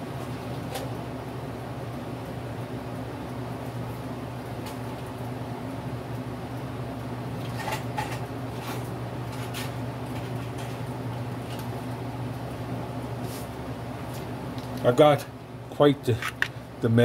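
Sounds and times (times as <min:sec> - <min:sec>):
low hum of shop machinery: 0:00.0 - 0:17.0.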